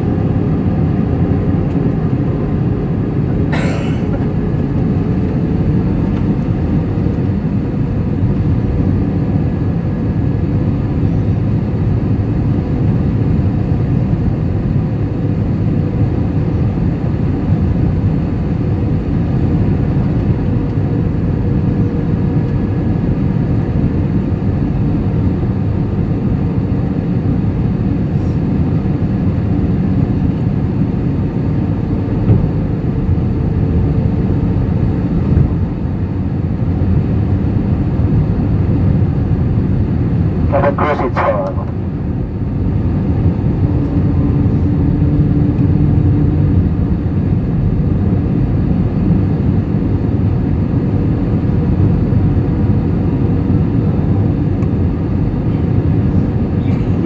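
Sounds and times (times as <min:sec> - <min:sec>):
airliner cabin engine rush: 0:00.0 - 0:57.0.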